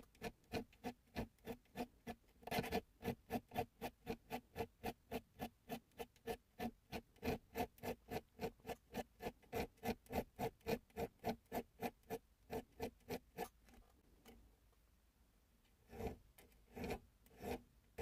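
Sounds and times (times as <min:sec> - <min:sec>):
needle file scraping metal: 0:00.0 - 0:14.0, 0:15.8 - 0:18.0.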